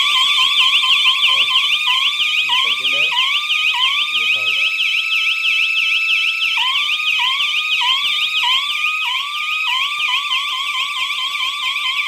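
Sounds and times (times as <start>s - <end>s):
electronic siren buzzer: 0.0s - 12.0s.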